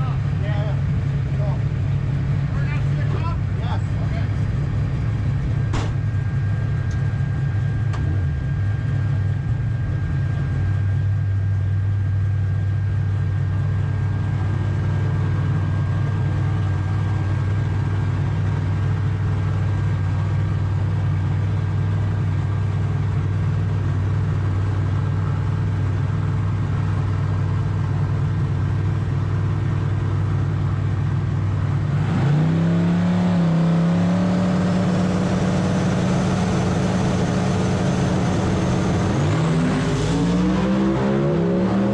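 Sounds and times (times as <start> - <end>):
race car engine idling and revving: 0.0 - 41.9.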